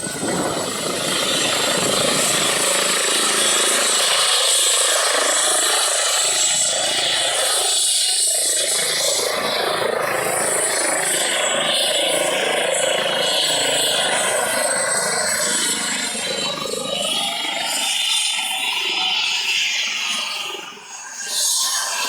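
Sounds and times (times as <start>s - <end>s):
helicopter rotor and turbine: 0.0s - 22.0s
high turbine whine: 0.0s - 22.0s.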